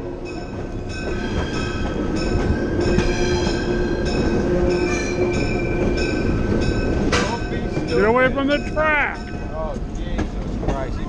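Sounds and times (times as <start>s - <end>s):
train rumbling on track: 0.0s - 11.0s
wheels squealing on rails: 0.2s - 9.8s.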